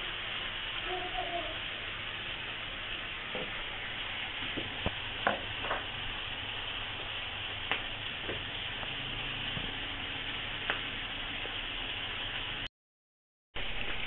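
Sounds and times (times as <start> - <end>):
chicken sizzling in oil: 0.0 - 12.7, 13.6 - 14.0.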